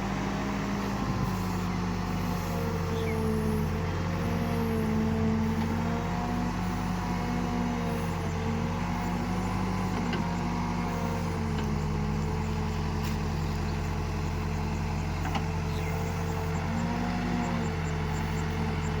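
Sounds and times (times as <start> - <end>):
backhoe diesel engine running: 0.0 - 19.0.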